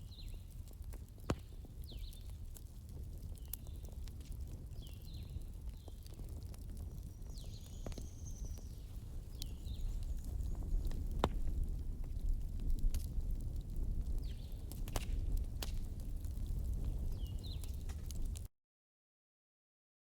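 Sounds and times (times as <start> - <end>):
fire crackling and popping: 0.0 - 18.5
fire rumbling: 0.0 - 18.5.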